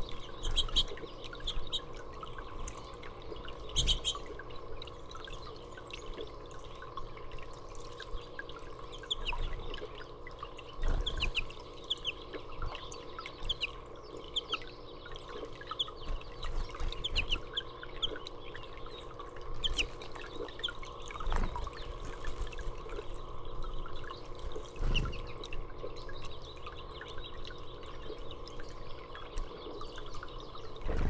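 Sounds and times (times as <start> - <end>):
small birds chirping: 0.0 - 4.5, 8.9 - 31.0
water trickling: 0.0 - 31.0.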